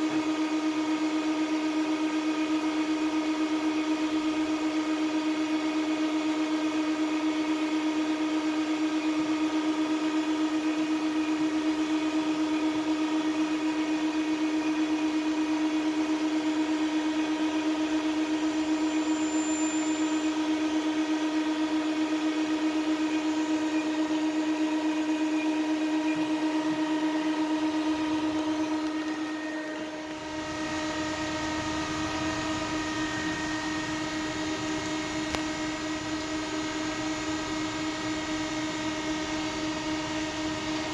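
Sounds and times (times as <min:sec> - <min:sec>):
machine whine: 0:00.0 - 0:40.9.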